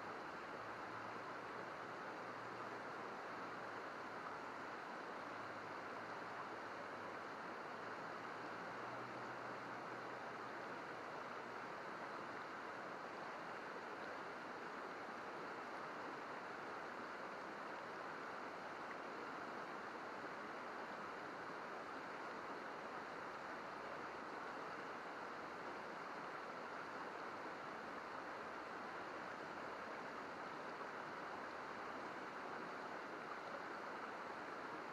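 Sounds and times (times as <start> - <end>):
river babbling over rocks: 0.0 - 34.9.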